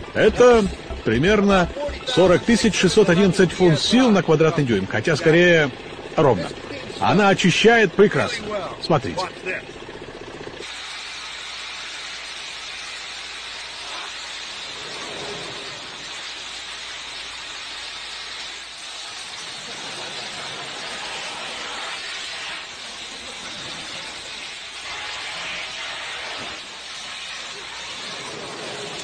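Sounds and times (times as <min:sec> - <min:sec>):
high-pressure water jet spraying: 0:00.0 - 0:09.6, 0:10.5 - 0:29.0.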